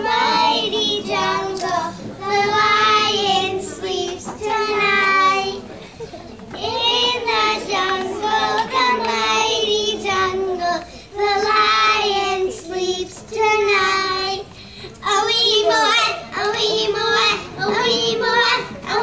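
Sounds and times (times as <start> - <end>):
young children singing: 0.0 - 19.0.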